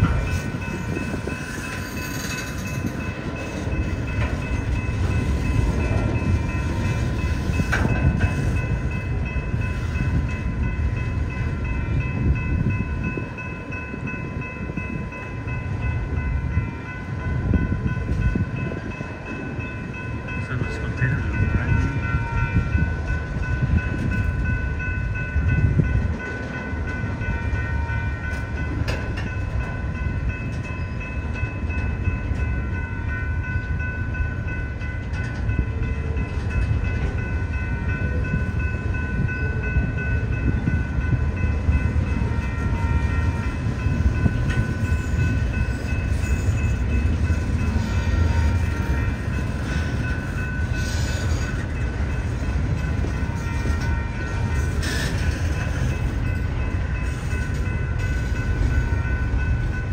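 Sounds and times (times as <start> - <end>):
freight train rumbling on rails: 0.0 - 59.9.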